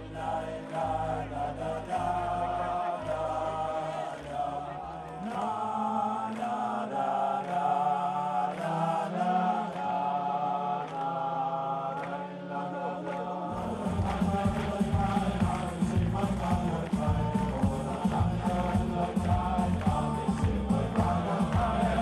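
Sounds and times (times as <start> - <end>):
men chanting: 0.0 - 22.0.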